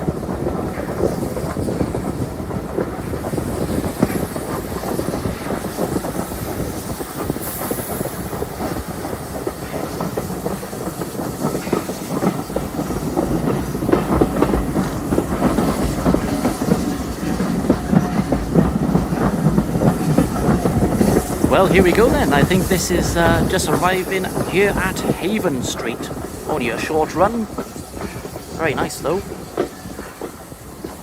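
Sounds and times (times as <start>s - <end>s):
steam hiss: 0.0s - 31.0s
train carriage rumbling: 0.0s - 31.0s
wheels clacking over rail joints: 0.0s - 31.0s.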